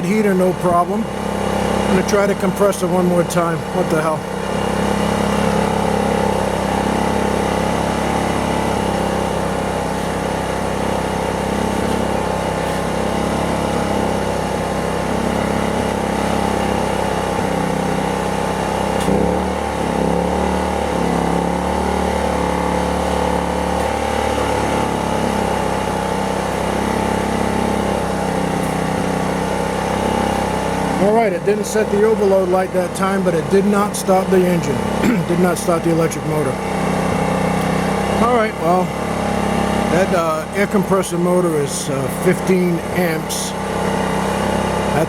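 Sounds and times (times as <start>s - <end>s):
generator engine running: 0.0s - 45.0s.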